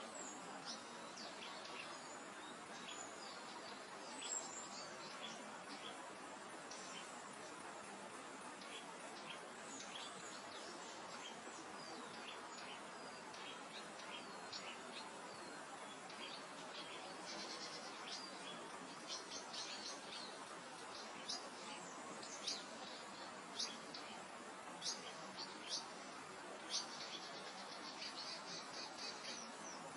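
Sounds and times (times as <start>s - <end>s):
songbirds chirping: 0.0s - 29.9s
wind through grass: 0.0s - 29.9s.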